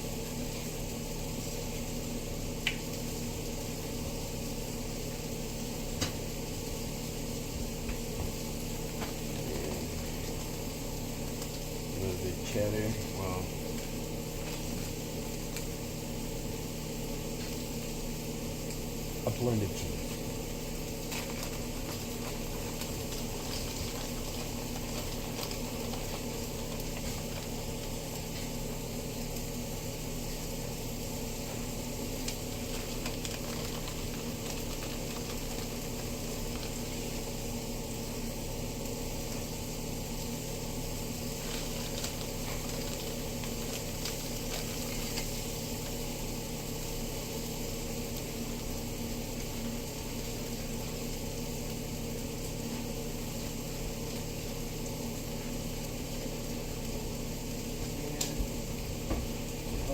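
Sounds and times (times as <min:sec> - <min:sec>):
potatoes sizzling: 0:00.0 - 0:59.9.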